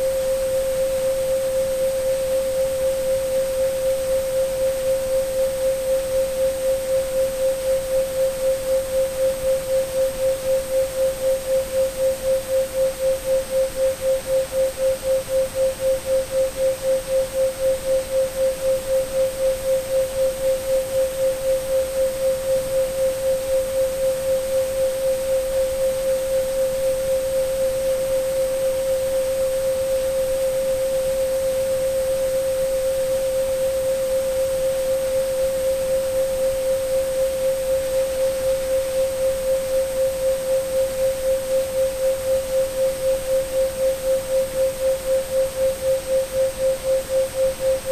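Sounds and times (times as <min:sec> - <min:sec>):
even noise hiss: 0:00.0 - 0:47.9
throbbing sine tone: 0:00.0 - 0:47.9.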